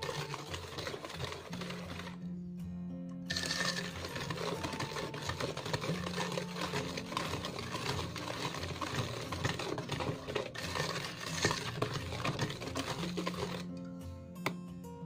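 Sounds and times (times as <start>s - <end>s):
whisk clinking in metal bowl: 0.0s - 2.2s, 3.3s - 13.7s.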